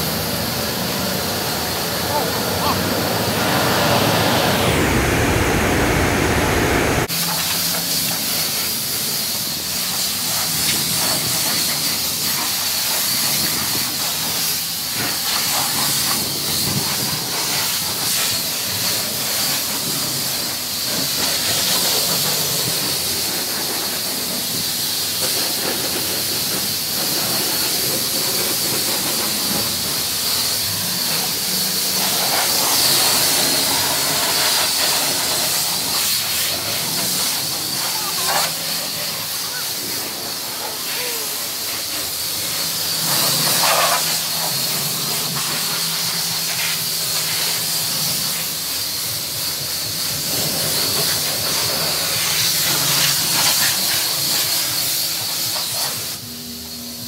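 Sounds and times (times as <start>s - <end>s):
pressure washer spraying water: 0.0s - 57.0s.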